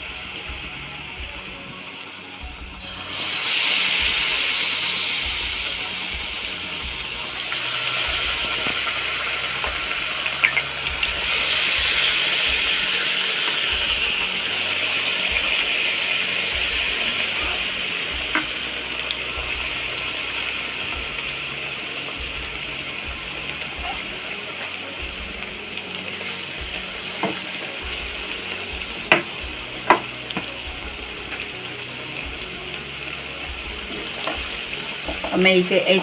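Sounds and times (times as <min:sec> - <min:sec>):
eggplant deep-frying in oil: 0:00.0 - 0:36.0.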